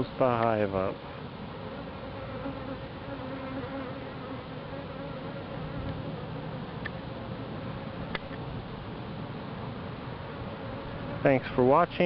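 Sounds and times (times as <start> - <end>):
bees buzzing: 0.8 - 11.4.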